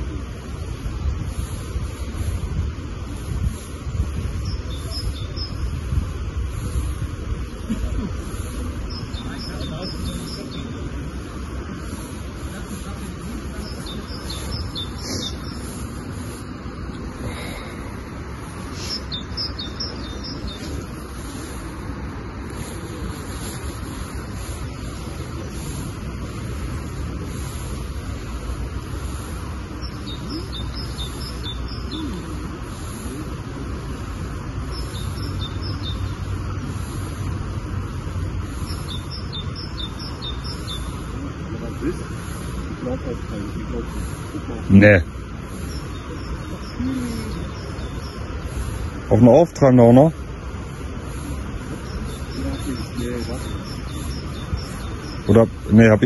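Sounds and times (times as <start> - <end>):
small birds chirping: 0.0 - 56.0
steady low rumble: 0.0 - 56.0.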